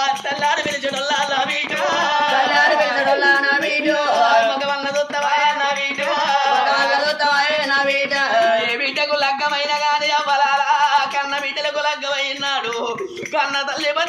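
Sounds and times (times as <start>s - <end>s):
hand-drum beats: 0.0s - 14.0s
person singing folk song: 0.0s - 14.0s.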